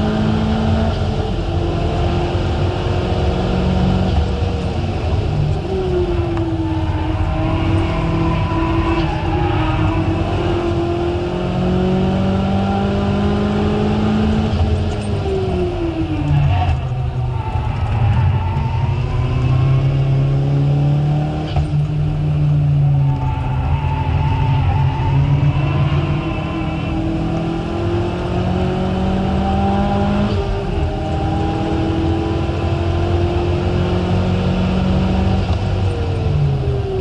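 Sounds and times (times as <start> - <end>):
car engine revving high: 0.0 - 37.0.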